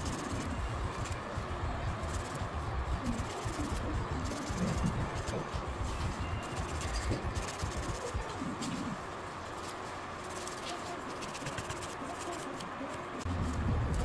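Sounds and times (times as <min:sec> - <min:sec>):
dust collector fan whooshing: 0:00.0 - 0:14.0.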